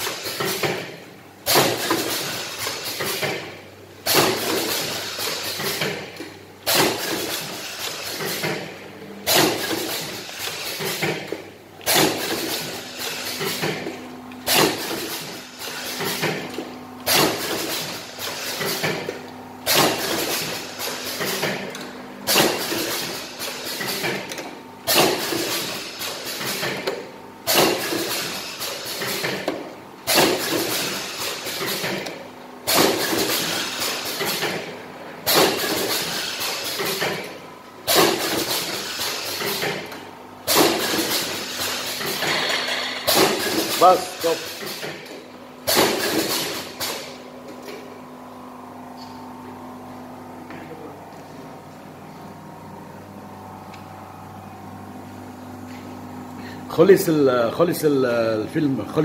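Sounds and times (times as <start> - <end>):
packing machine noise bursts: 0.0 - 47.8.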